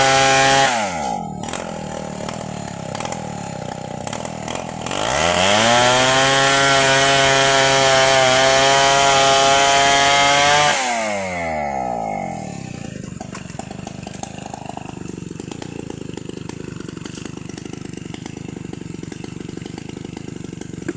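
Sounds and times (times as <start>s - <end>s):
chainsaw revving and idling: 0.0s - 20.9s.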